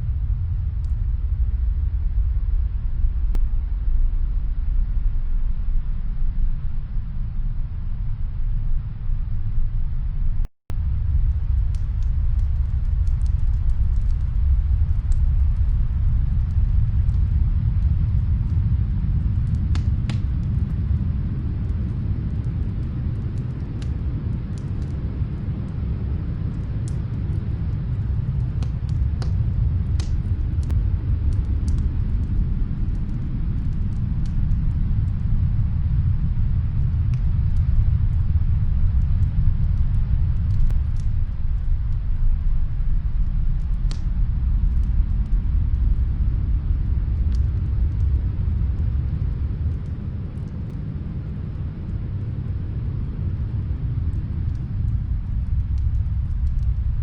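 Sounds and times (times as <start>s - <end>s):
fire crackling in a fireplace: 0.0s - 57.0s
snowstorm wind rumbling: 0.0s - 57.0s.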